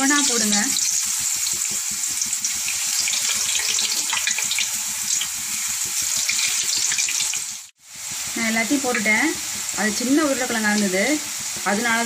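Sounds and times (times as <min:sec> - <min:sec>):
potato slices sizzling in oil: 0:00.0 - 0:12.0.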